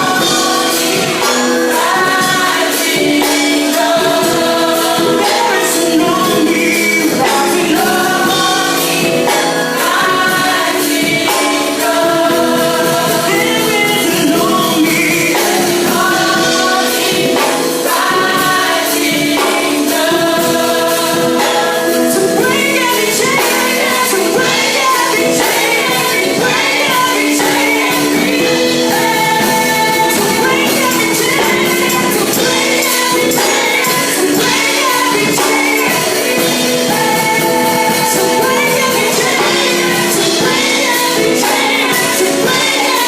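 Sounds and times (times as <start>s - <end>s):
gospel band playing: 0.0s - 43.0s
group of singers: 0.0s - 43.0s
percussion beat: 0.0s - 43.0s.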